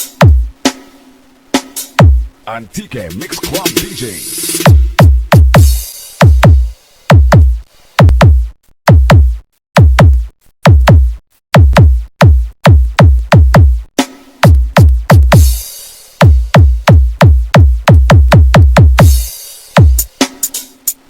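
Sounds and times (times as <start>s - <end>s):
booming drum machine kicks: 0.0s - 0.8s, 1.6s - 2.3s, 3.0s - 15.6s, 16.2s - 20.1s.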